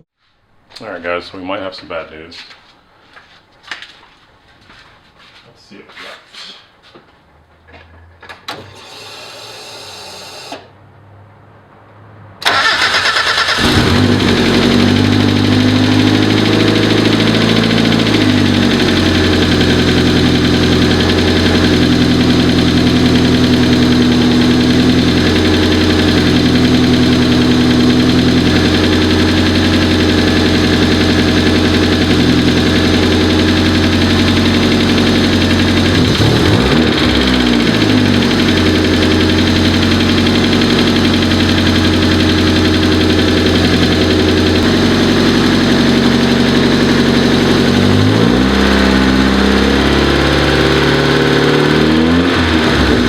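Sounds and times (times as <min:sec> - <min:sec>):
car engine starting and idling: 0:08.1 - 0:10.7, 0:12.4 - 0:53.0.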